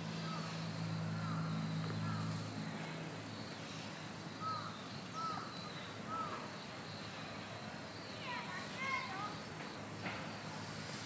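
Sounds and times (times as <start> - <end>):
bird calling: 0.0 - 9.5.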